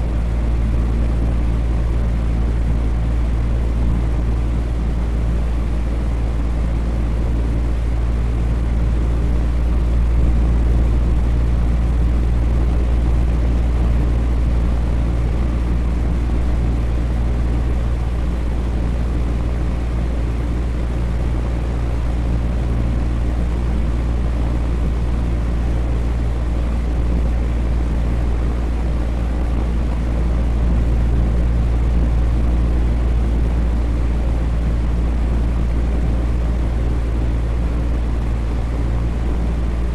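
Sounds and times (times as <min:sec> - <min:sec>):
electric fan whooshing and humming: 0:00.0 - 0:39.9.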